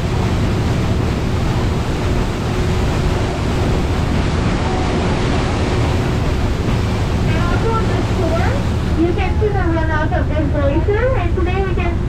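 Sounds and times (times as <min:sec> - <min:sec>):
boat engine drone: 0:00.0 - 0:12.0
water and wind noise: 0:00.0 - 0:12.0.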